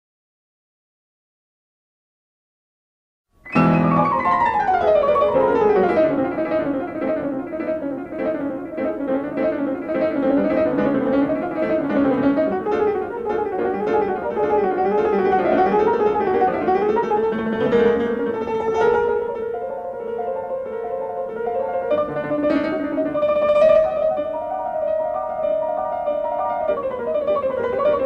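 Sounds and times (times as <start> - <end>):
keyboard music: 3.5 - 28.0.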